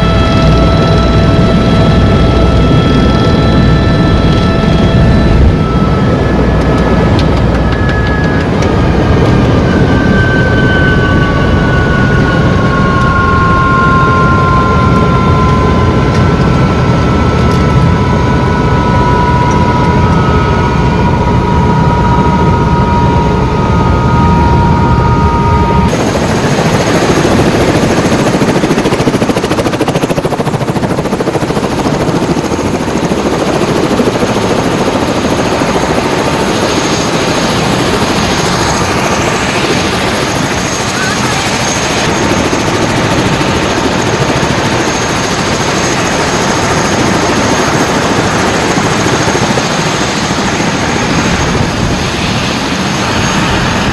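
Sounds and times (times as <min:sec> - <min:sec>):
helicopter cabin drone with whine: 0:00.0 - 0:53.9.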